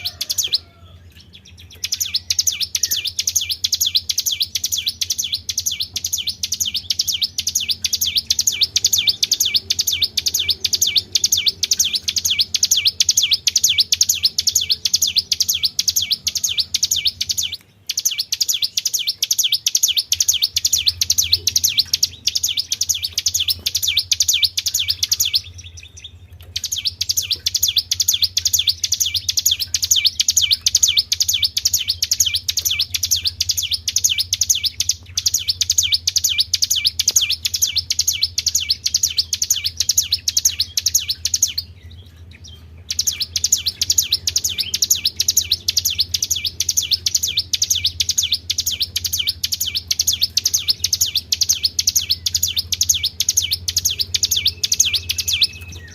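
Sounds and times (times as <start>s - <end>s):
songbird trilling: 0.0s - 55.9s.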